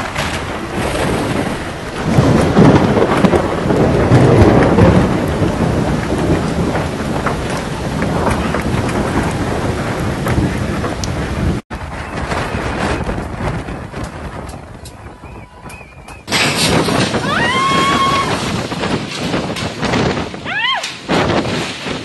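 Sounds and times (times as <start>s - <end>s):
driven rain: 0.0s - 22.0s
storm wind buffeting microphone: 0.0s - 22.0s.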